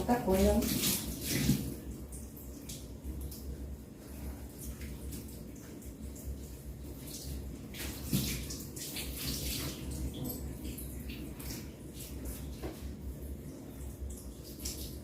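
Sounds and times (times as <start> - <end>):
water splashing through hair: 0.0 - 3.6, 4.6 - 13.0, 14.0 - 15.0.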